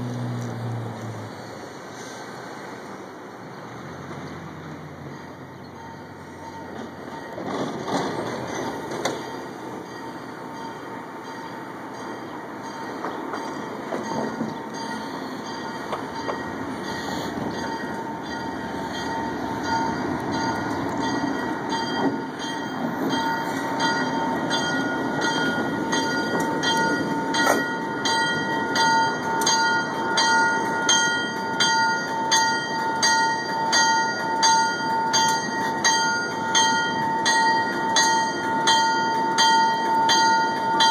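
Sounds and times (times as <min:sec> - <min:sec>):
diesel locomotive engine: 0:00.0 - 0:40.9
locomotive bell ringing: 0:04.0 - 0:40.9.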